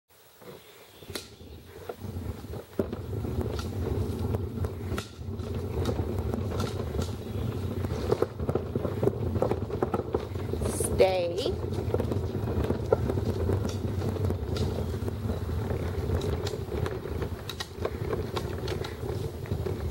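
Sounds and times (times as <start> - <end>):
footsteps on paved path: 0.4 - 19.9
low rumble: 1.2 - 19.9.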